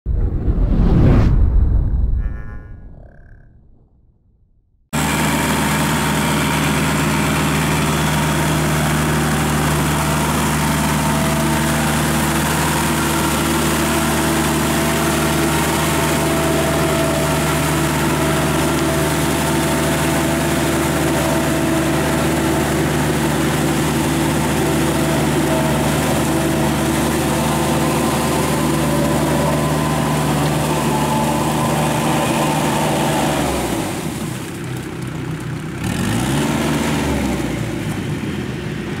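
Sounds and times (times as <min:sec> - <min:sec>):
tractor diesel engine under load: 0:05.0 - 0:39.0.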